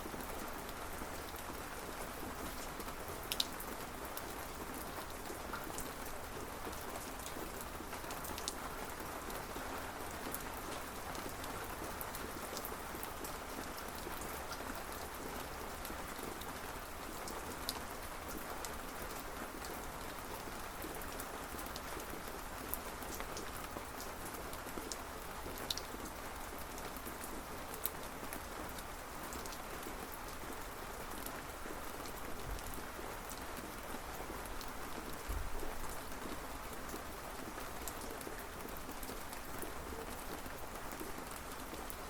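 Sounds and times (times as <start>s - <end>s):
steady rainfall: 0.0s - 42.0s.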